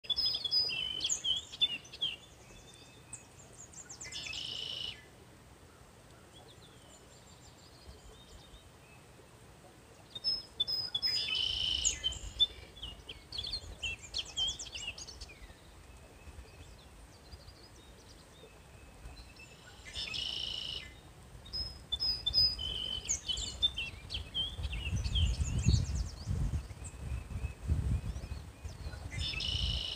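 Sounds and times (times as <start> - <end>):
songbirds chirping: 0.0 - 29.9.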